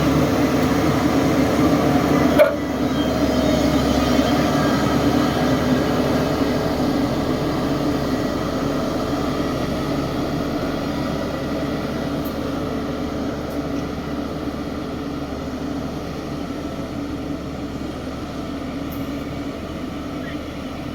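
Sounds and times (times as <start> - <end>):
heavy machine engine running: 0.0 - 20.9.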